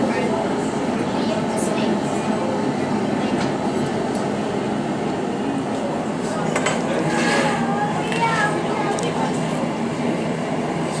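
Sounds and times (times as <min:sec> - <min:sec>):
furnace and burners roaring: 0:00.0 - 0:11.0.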